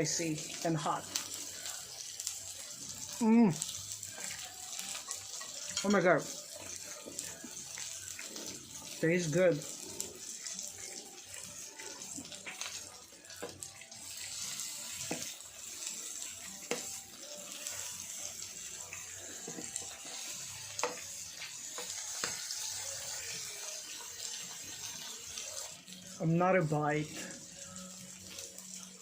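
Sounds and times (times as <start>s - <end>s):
meat sizzling on grill pan: 0.0s - 29.0s.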